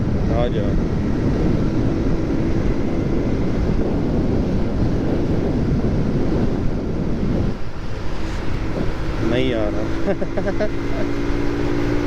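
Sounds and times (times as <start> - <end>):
motorcycle engine: 0.0 - 12.0
road noise: 0.0 - 12.0
wind rushing over microphone: 0.0 - 12.0.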